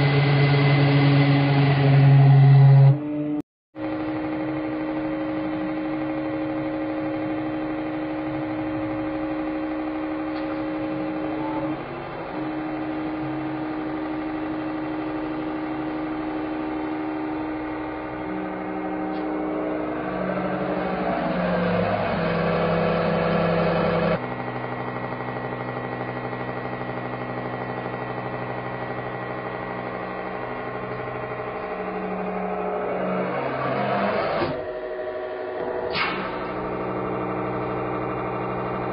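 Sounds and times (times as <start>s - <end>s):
hydraulic pump motor whining: 0.0s - 3.0s, 3.8s - 38.9s.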